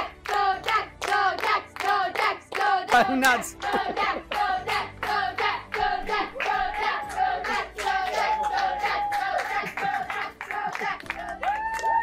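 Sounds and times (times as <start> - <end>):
voices chanting and singing: 0.0 - 11.4
people clapping in rhythm: 0.0 - 12.0.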